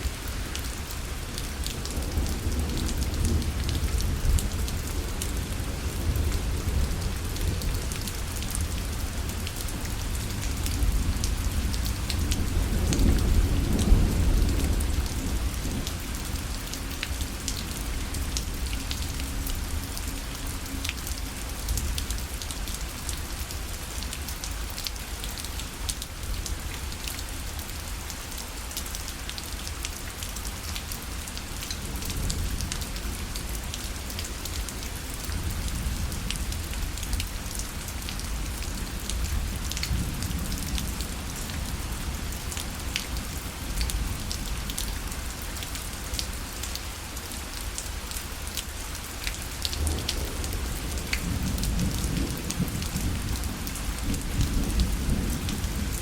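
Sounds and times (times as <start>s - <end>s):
rain ticking on a parasol: 0.0s - 56.0s.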